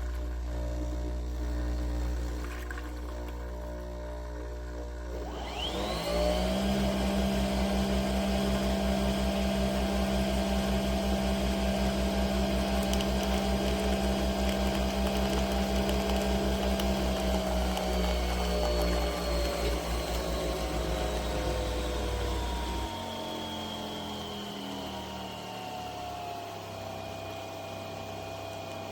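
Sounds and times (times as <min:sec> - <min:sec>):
coffee machine motor whine: 0:00.0 - 0:28.9.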